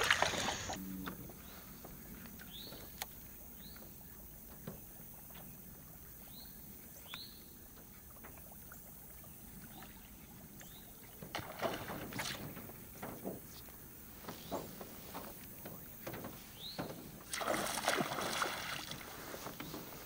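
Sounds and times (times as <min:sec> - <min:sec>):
water splashing: 0:00.0 - 0:01.4, 0:02.1 - 0:20.0.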